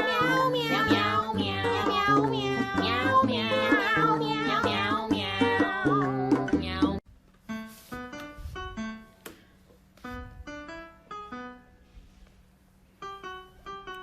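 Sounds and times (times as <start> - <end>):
piano melody: 0.0 - 12.2, 12.8 - 14.0.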